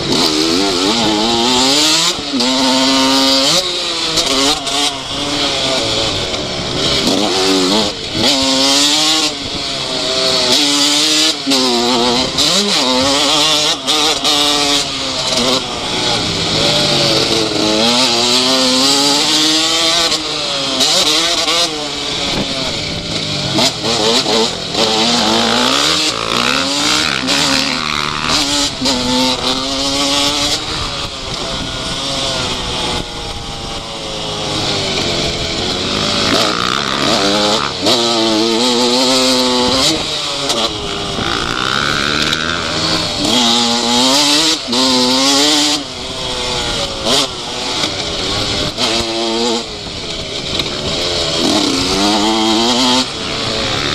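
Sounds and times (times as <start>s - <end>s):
steady rushing noise: 0.0s - 53.9s
two-stroke motorbike engine revving: 0.0s - 53.9s.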